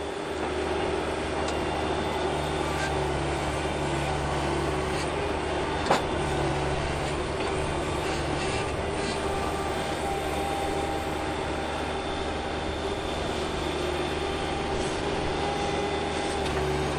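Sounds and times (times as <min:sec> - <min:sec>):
loader engine hum with whine: 0:00.0 - 0:16.9.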